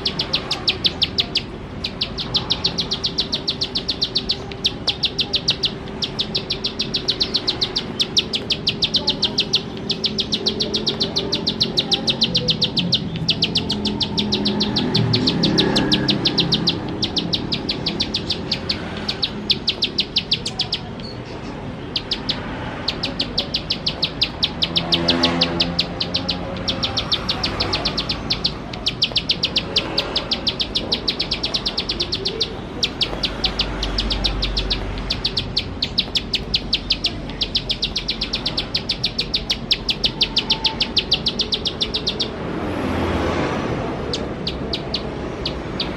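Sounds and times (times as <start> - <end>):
bird singing fast dry ticks: 0.0 - 43.2, 44.1 - 45.9.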